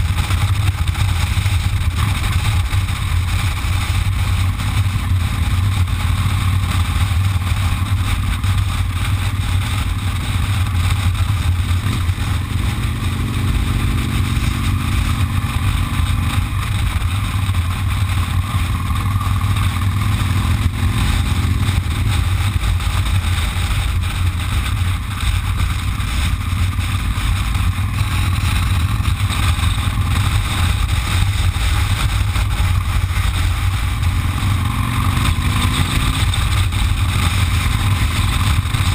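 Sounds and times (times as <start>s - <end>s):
motorcycle engine drone: 0.0s - 38.9s
wind and road noise: 0.0s - 38.9s.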